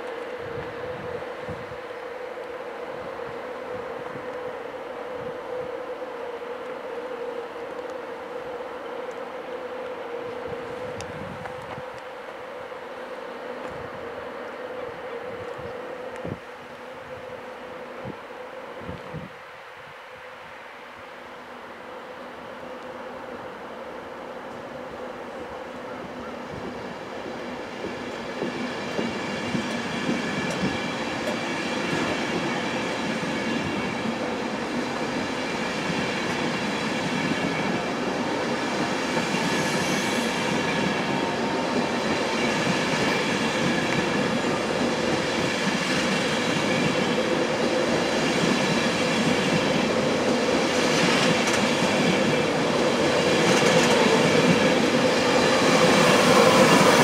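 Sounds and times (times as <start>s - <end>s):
train wheel and rail noise: 0.0s - 57.0s.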